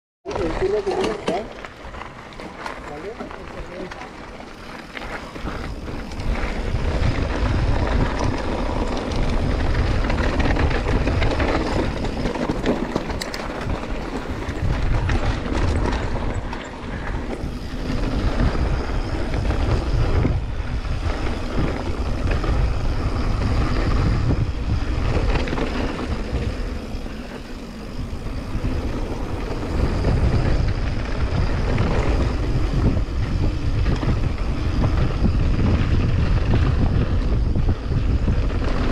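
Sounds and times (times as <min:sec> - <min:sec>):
wind buffeting microphone: 0:00.2 - 0:38.9
tyres on gravel and dirt: 0:00.3 - 0:38.9.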